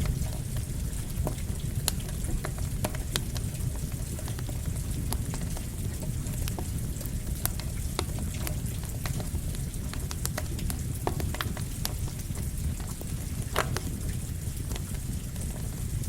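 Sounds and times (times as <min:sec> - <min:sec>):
campfire crackling and popping: 0:00.0 - 0:16.0
rain falling: 0:00.0 - 0:16.0.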